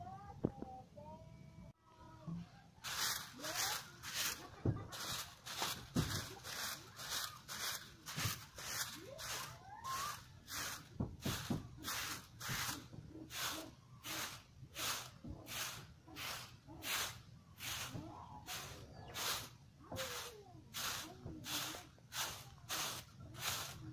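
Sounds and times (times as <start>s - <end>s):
broom sweeping grass and leaves: 2.8s - 23.9s.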